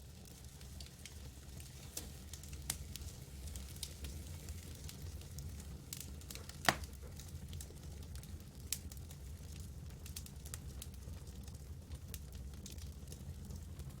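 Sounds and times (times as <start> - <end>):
low rumble of fire: 0.0 - 14.0
campfire crackling and popping: 0.1 - 14.0.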